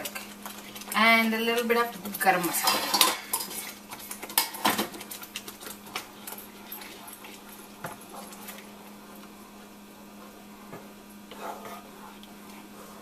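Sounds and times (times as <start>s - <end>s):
steady low hum: 0.0s - 13.0s
wooden spoon stirring sauce: 0.0s - 13.0s.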